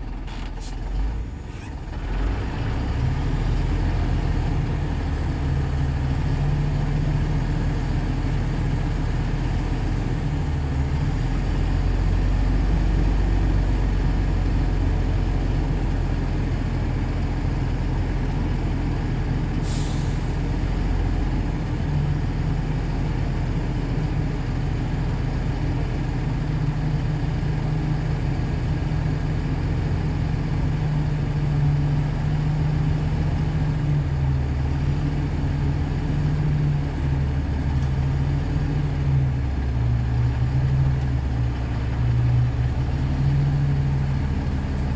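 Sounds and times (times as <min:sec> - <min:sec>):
bulldozer diesel engine under load: 0:00.0 - 0:44.9.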